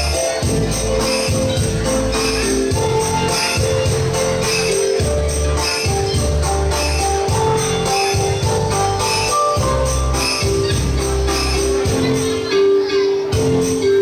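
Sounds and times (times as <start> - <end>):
dance music: 0.0 - 14.0.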